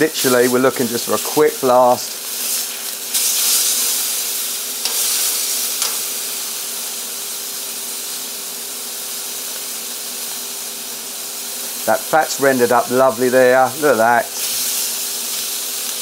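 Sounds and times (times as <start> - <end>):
steaks sizzling in butter: 0.0 - 16.0.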